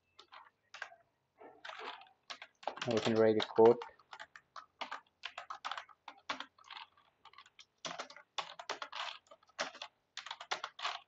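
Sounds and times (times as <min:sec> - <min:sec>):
computer keyboard typing: 0:00.1 - 0:01.0, 0:01.6 - 0:11.0.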